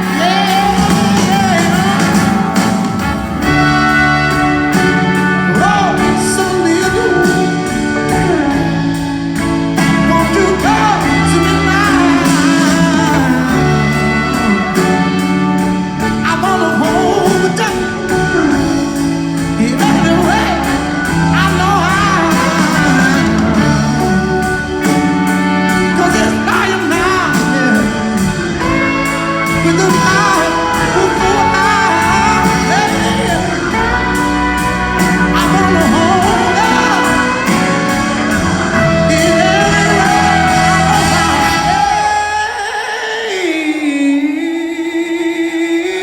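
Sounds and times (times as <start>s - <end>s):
live band playing instrumental: 0.0s - 43.4s.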